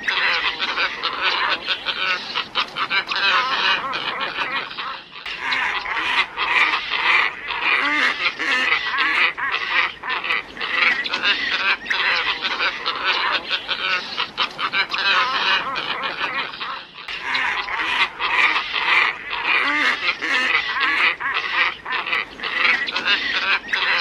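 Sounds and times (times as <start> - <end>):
flock of ibises calling: 0.0 - 24.0.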